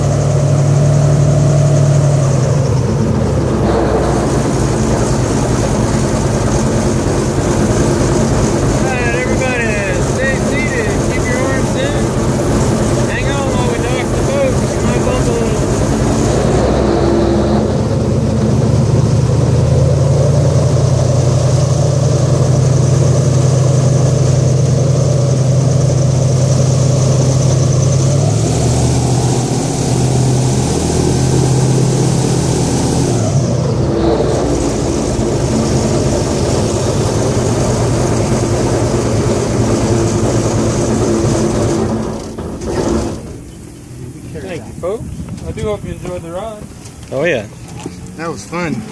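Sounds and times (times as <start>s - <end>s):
airboat engine and propeller: 0.0s - 48.9s.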